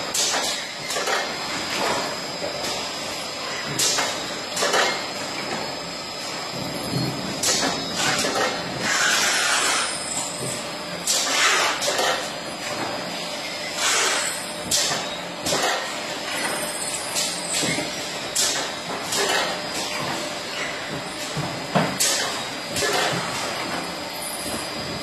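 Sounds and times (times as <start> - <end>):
packing machine running: 0.0 - 25.0.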